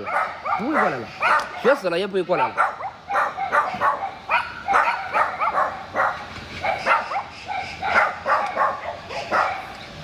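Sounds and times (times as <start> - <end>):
dogs barking: 0.0 - 9.9.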